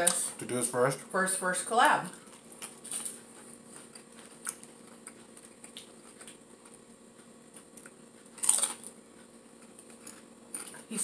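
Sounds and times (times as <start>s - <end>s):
chewing crunchy chips: 2.1s - 11.0s.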